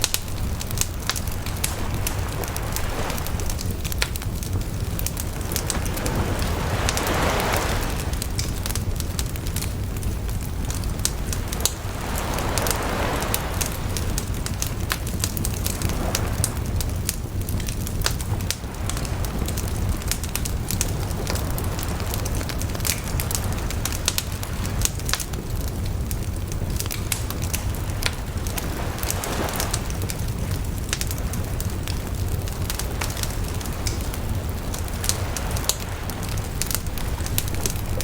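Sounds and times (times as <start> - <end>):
fire hissing: 0.0 - 38.0
wood bonfire crackling: 0.0 - 38.0.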